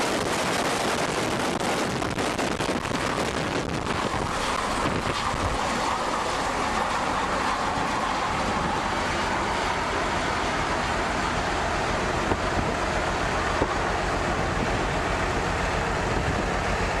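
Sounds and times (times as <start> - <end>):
aircraft flying overhead: 0.0 - 17.0.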